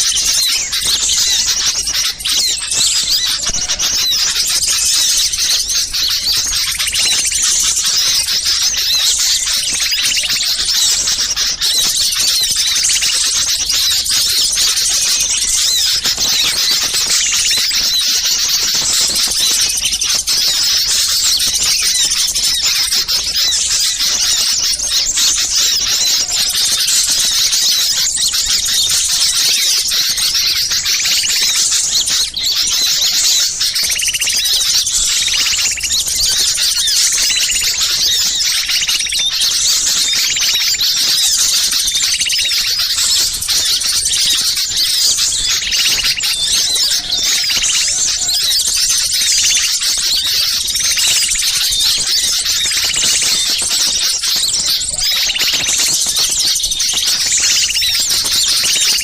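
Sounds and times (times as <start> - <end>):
small songbirds chattering: 0.0 - 59.0.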